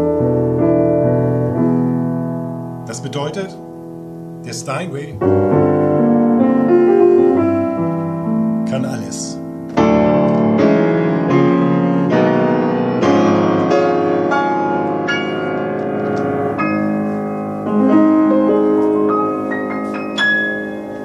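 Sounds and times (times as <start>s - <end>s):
higher piano notes: 0.0s - 21.0s
piano chords ringing: 0.0s - 21.0s.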